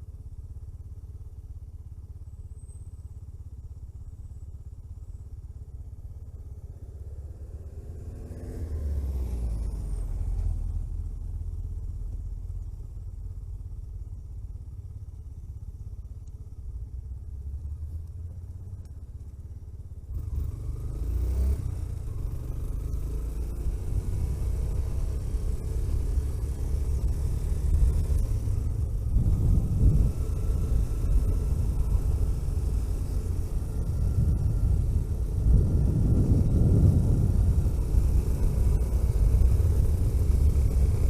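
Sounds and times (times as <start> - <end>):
vehicle engine and road rumble: 0.0 - 41.0.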